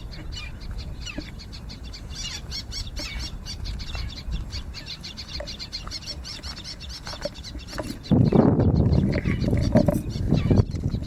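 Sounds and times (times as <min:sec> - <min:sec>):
birds alarm calls: 0:00.0 - 0:11.0.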